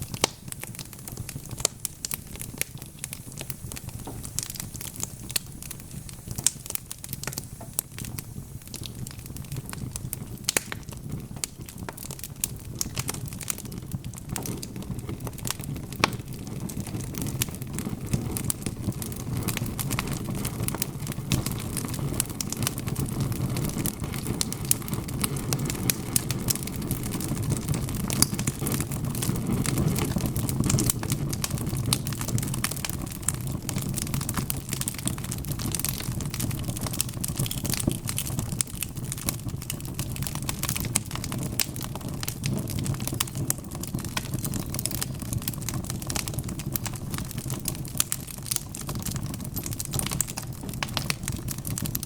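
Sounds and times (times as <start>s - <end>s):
fire flames rumbling: 0.0s - 52.0s
wood crackling and popping: 0.0s - 52.0s.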